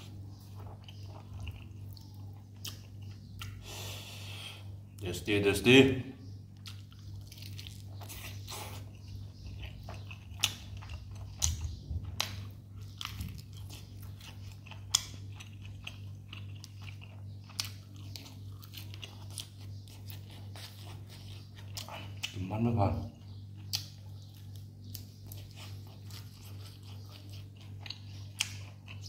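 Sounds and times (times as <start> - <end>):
man chewing food: 0.0 - 5.0, 6.2 - 29.0
steady low hum: 0.0 - 29.0.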